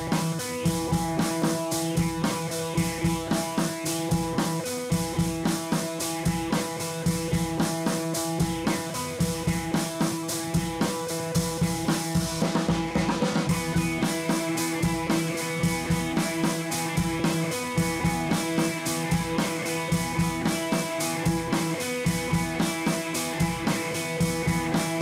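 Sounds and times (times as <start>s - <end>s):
steady drum beat: 0.0s - 25.0s.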